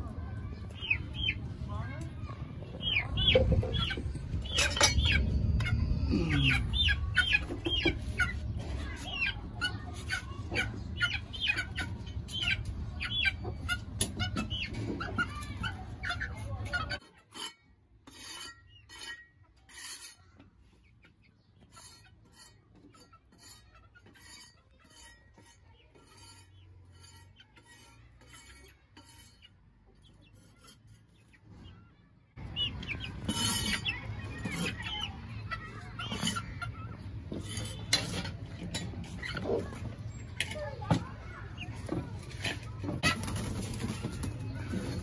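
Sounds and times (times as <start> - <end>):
chicks clucking and peeping: 0.0 - 17.5, 18.4 - 45.0.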